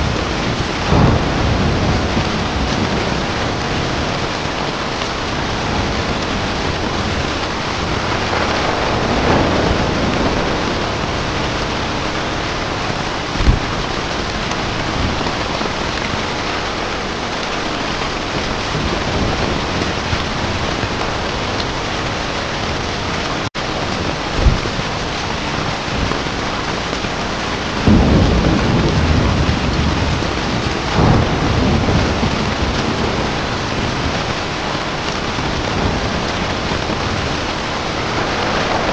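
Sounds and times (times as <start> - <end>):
heavy rain: 0.0 - 38.9
thunder rumbling: 0.0 - 38.9.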